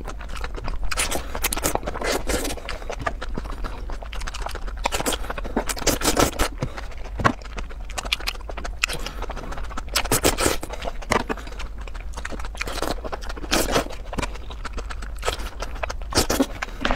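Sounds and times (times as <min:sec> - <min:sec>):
wet crunching and chewing: 0:00.0 - 0:16.9.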